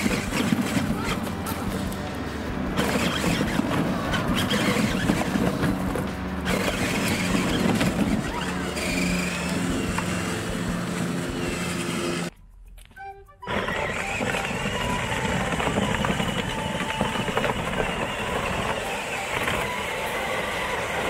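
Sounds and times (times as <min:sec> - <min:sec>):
plastic wheels crunching on stones: 0:00.0 - 0:02.1, 0:02.8 - 0:12.3, 0:13.5 - 0:21.0
electric motors whining: 0:00.0 - 0:12.3, 0:13.4 - 0:21.0.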